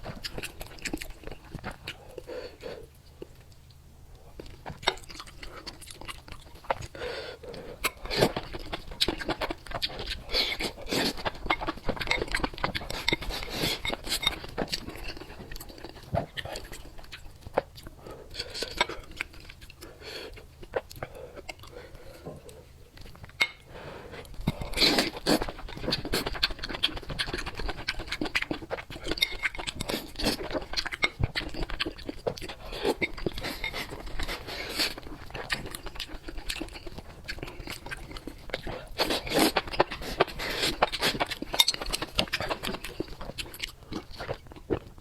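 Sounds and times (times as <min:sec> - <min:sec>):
person chewing crunchy food: 0:00.0 - 0:45.0.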